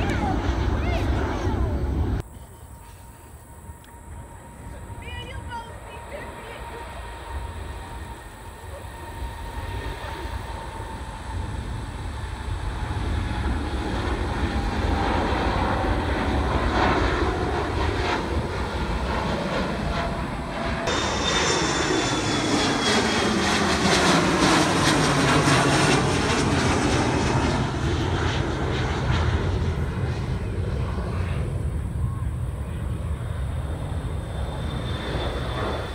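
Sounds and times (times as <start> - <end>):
jet engines at takeoff: 0.0 - 35.9
jet passing overhead whining: 0.0 - 35.9.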